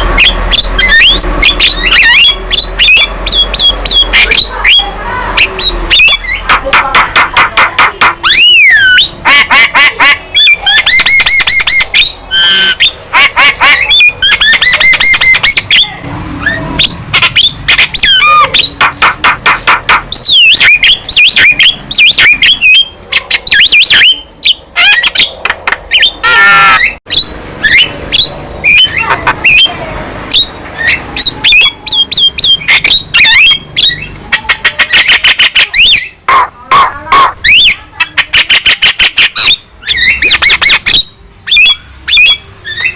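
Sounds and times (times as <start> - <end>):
myna singing whistles and squawks: 0.0 - 42.9.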